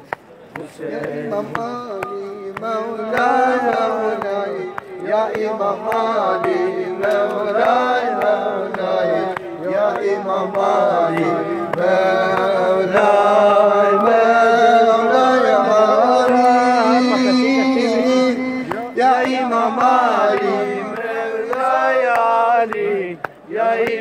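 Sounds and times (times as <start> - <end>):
hands slapping chests: 0.0 - 13.4, 16.1 - 24.0
men singing a lament: 0.5 - 24.0.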